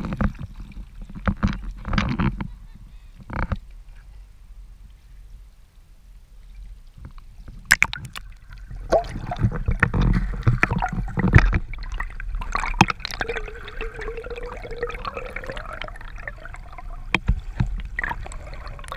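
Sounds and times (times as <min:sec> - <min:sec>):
water gurgling and sloshing: 0:00.0 - 0:02.6, 0:03.2 - 0:18.9.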